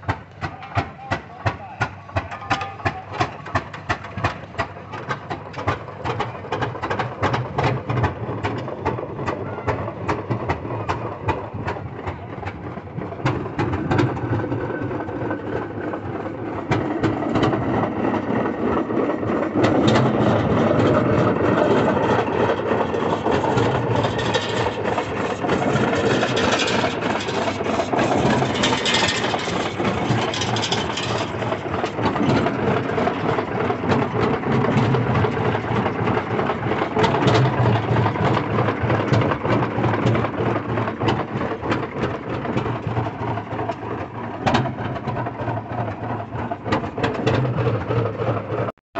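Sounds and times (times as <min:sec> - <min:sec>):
heavy engine running: 0:00.0 - 0:48.7.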